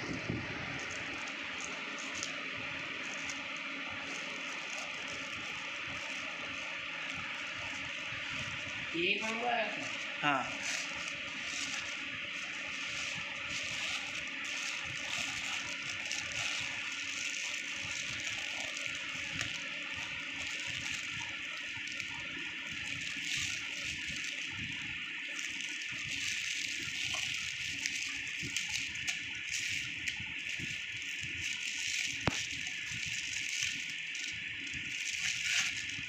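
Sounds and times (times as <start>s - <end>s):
plastic bag and foil crinkling: 0.0s - 36.0s
steady background hiss: 0.0s - 36.0s.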